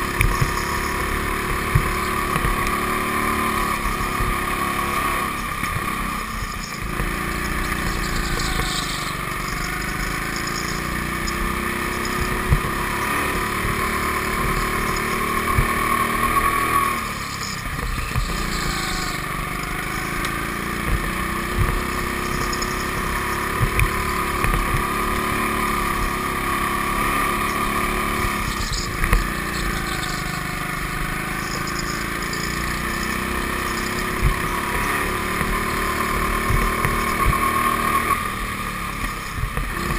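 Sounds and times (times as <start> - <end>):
go-kart motor running: 0.0 - 39.9.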